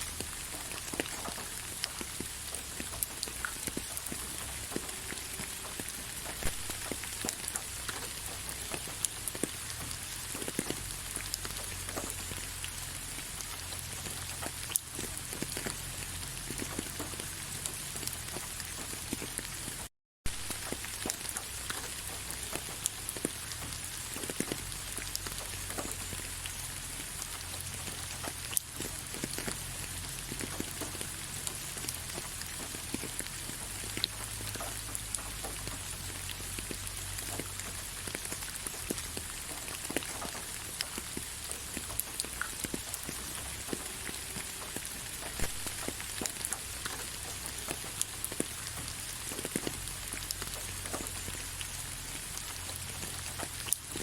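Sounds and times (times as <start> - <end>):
gentle steady rain: 0.0 - 54.0
raindrops ticking: 0.0 - 54.0.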